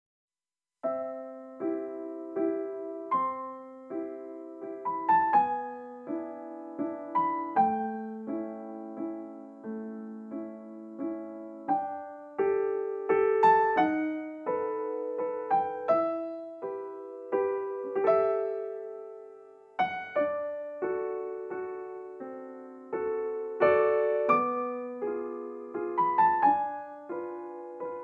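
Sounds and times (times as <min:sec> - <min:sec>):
gentle piano music: 0:00.8 - 0:28.0.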